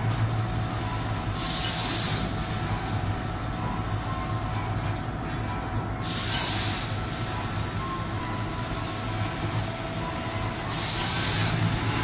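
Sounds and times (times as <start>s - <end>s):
packing machine humming: 0.0s - 12.0s.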